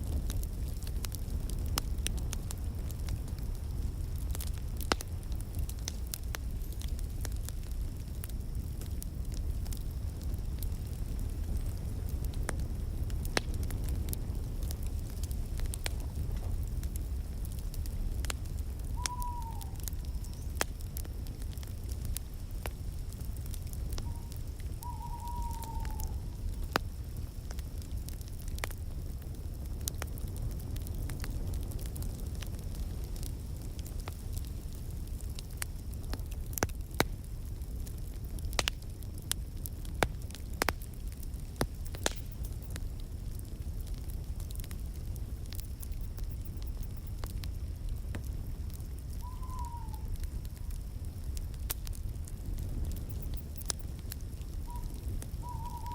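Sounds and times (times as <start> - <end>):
low rumble of flames: 0.0 - 55.9
wood fire crackling: 0.0 - 55.9.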